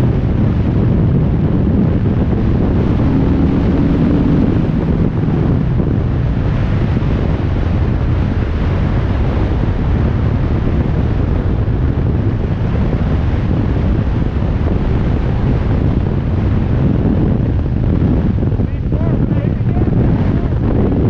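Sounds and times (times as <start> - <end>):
motorcycle engine rumble: 0.0 - 21.0
wind on microphone: 0.0 - 21.0.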